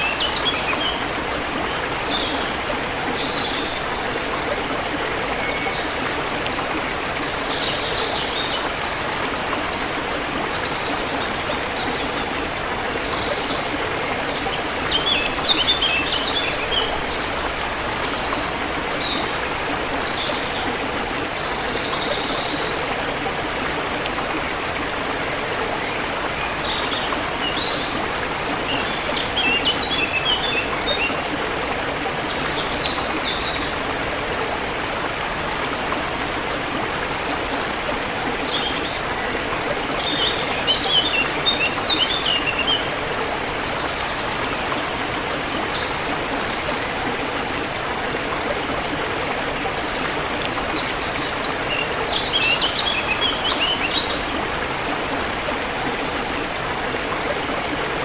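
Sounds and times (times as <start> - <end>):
songbirds chirping: 0.0 - 55.6
forest stream running: 0.0 - 58.0.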